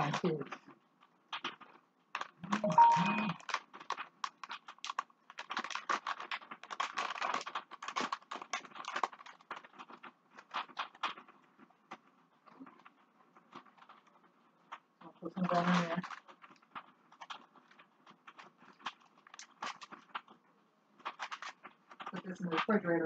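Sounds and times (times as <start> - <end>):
plastic bag crinkling: 0.0 - 20.4, 21.0 - 23.0.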